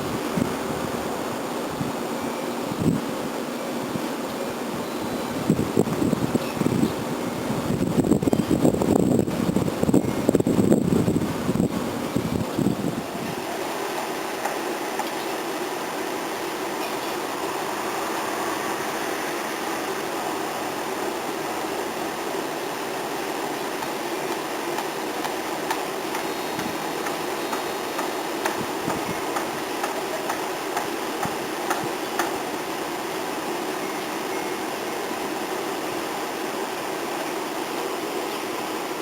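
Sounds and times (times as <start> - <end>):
background hiss: 0.0 - 39.0.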